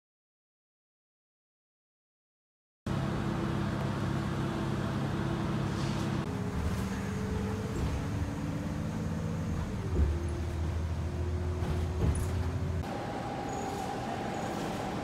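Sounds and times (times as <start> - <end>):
bus engine running: 2.9 - 15.0
station hall background hum: 2.9 - 15.0.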